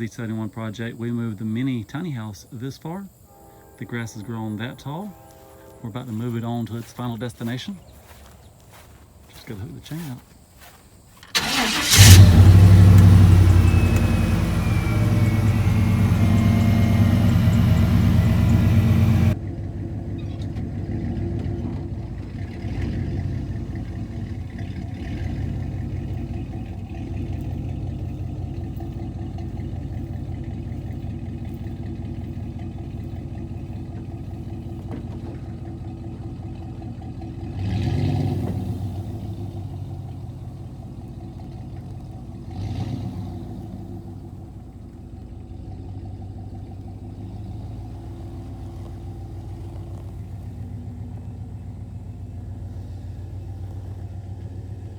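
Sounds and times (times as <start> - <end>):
pickup engine running: 0.0 - 54.9.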